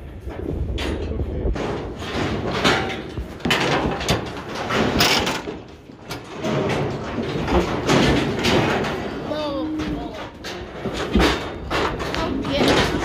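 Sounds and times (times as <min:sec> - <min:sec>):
metal chute clanking and rattling: 0:00.0 - 0:13.0.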